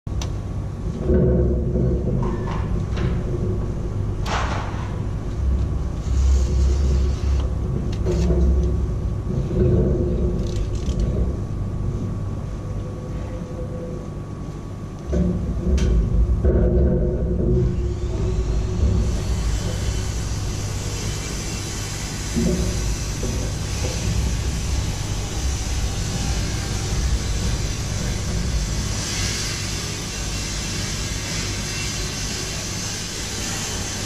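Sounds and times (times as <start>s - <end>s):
low mechanical rumble: 0.1s - 34.0s.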